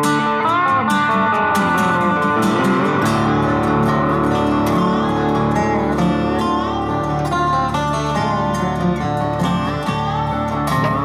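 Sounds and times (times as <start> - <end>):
background music with plucked guitar: 0.0 - 11.0.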